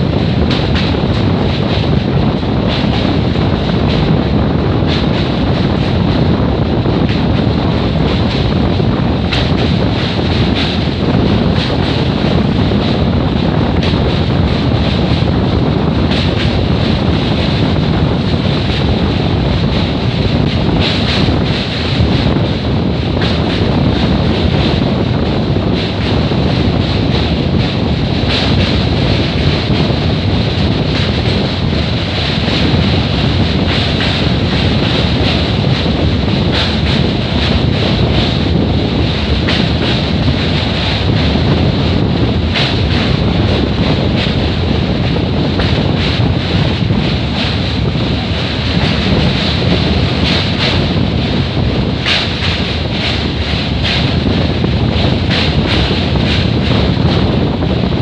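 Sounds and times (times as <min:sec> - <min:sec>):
train rumbling over bridge: 0:00.0 - 0:58.0
wind buffeting microphone: 0:00.0 - 0:58.0.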